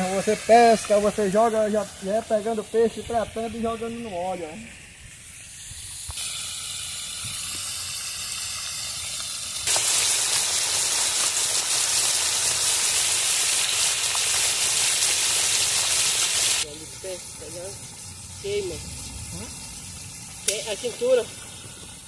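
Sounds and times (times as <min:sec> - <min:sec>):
fish frying in hot oil: 0:00.0 - 0:03.0, 0:03.8 - 0:22.0.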